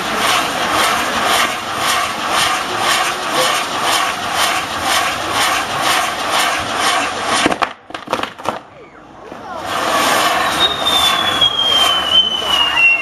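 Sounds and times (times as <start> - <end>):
fireworks hissing: 0.0 - 8.7, 9.4 - 13.0.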